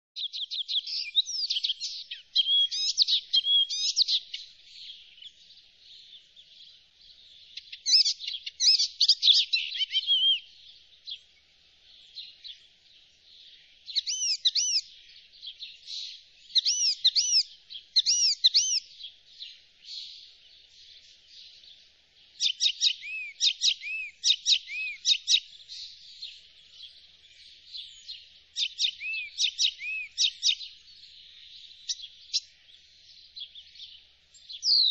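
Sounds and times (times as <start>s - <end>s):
warbler singing: 0.2s - 34.9s.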